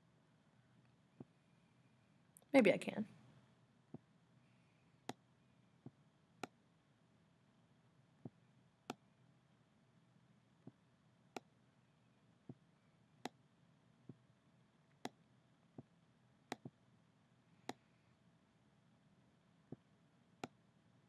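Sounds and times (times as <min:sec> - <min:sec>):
faint room hiss: 0:00.0 - 0:21.0.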